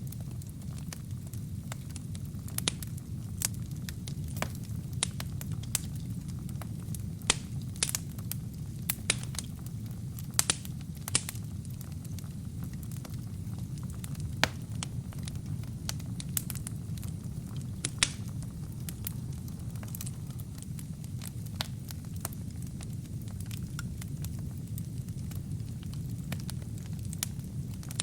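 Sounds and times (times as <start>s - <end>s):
fire rumbling: 0.0s - 28.0s
wood crackling and popping: 0.0s - 28.0s.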